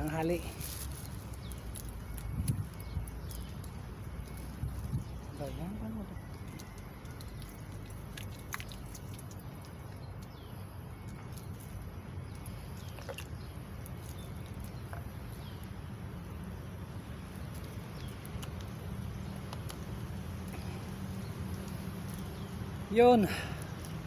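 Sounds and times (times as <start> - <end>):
wind rumbling on microphone: 0.6 - 22.6.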